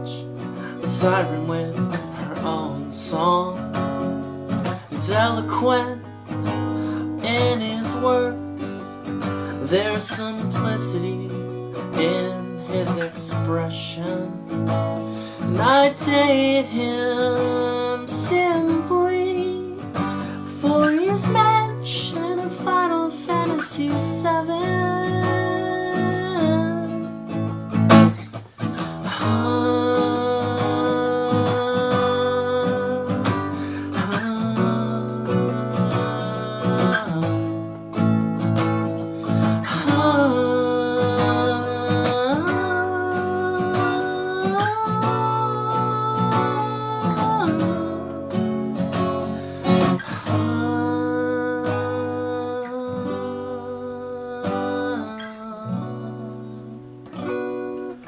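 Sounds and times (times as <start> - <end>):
acoustic guitar strumming and picking: 0.0 - 58.0.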